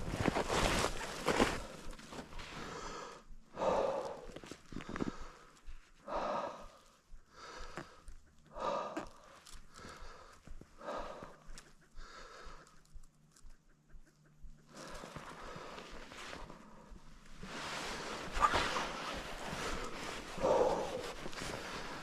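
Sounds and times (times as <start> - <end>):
person breathing hard: 2.3 - 13.4, 14.4 - 22.0.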